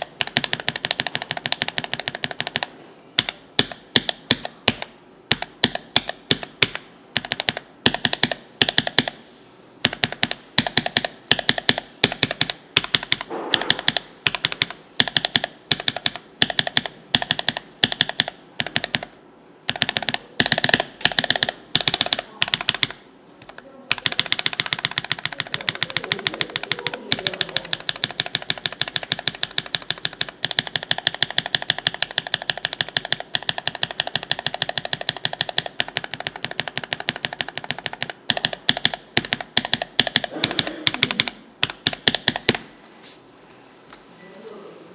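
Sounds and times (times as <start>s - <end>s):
rapid key tapping rattle: 0.0s - 9.1s, 9.9s - 19.1s, 19.7s - 42.6s
keyboard switches clacking: 0.0s - 9.2s, 9.8s - 19.1s, 19.7s - 42.6s.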